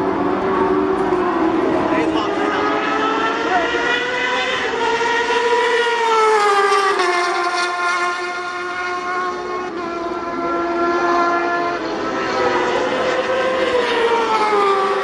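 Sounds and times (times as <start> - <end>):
racing motorcycle engine: 0.0 - 15.0.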